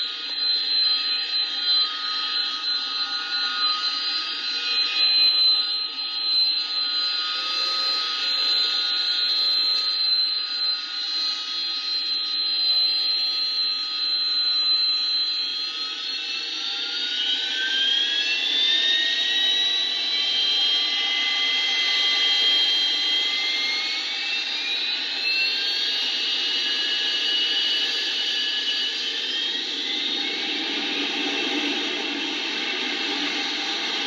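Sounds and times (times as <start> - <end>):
jet engine roar and turbine whine: 0.0 - 34.0.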